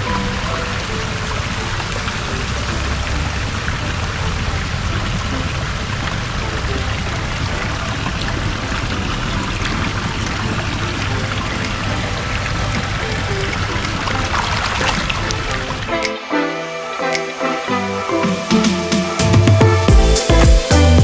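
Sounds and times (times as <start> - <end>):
faint background music: 0.0 - 21.0
rush of running water: 0.0 - 21.0.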